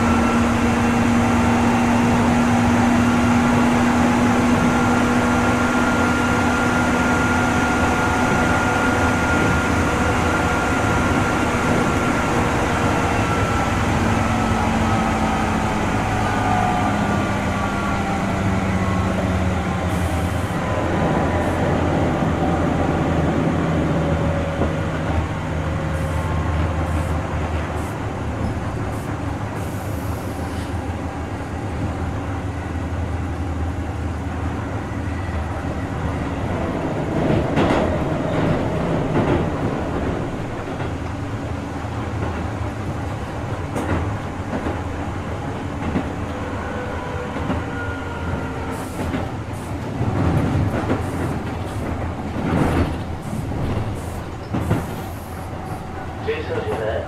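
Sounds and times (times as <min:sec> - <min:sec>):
train motor and gear whine: 0:00.0 - 0:57.0.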